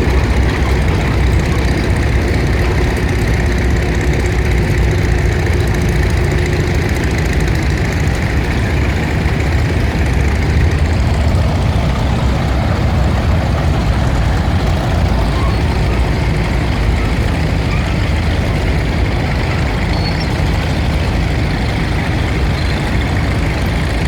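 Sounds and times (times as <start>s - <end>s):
tractor engines running: 0.0s - 24.0s.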